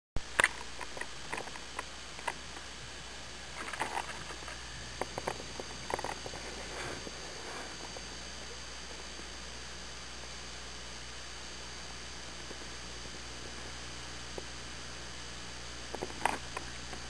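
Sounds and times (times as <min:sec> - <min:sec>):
faint high whine: 0:00.2 - 0:17.0
steady hiss: 0:00.2 - 0:17.0.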